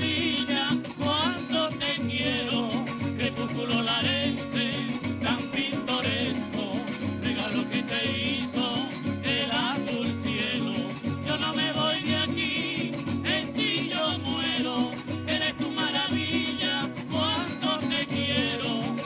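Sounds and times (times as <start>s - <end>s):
plucked string ensemble: 0.0s - 19.0s.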